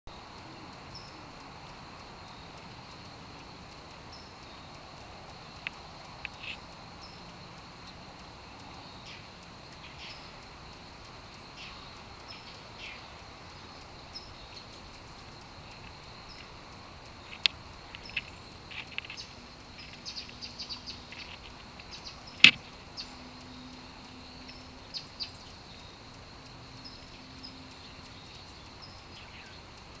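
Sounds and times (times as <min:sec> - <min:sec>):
steady high-pitched hum: 0:00.1 - 0:30.0.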